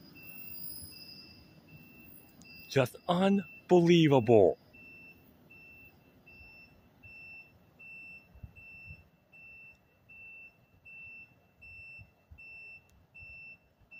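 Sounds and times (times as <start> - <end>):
high-pitched electronic beep: 0.0 - 13.5.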